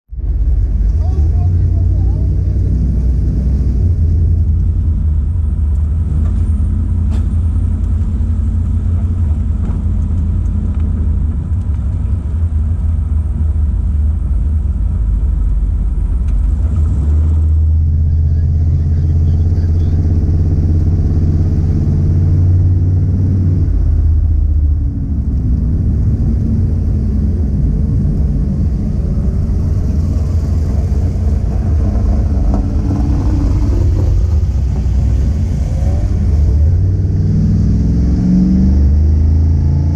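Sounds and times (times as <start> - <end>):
car engine droning and revving: 0.1 - 39.9.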